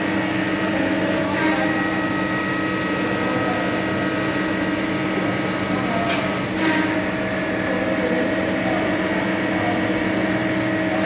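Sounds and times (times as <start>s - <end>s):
metal lathe humming: 0.0s - 10.9s.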